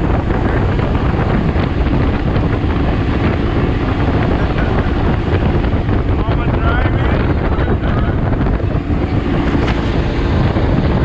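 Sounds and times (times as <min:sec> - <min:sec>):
outboard motor drone: 0:00.0 - 0:11.0
wind buffeting microphone: 0:00.0 - 0:11.0.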